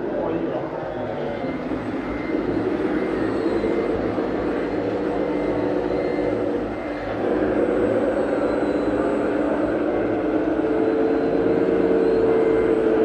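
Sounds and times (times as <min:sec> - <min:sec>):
motor running with low pulsing: 0:01.0 - 0:13.0.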